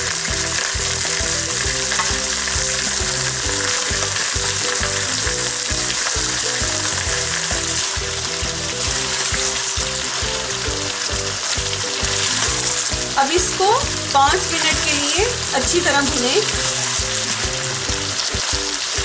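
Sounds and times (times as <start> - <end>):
background music with a beat: 0.0 - 19.0
meat and onions sizzling in oil: 0.0 - 19.0.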